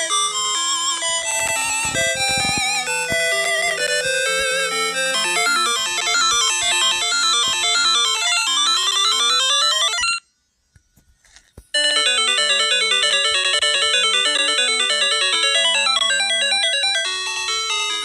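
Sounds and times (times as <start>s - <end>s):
bell-like synthesized melody: 0.0s - 10.0s, 11.8s - 18.0s.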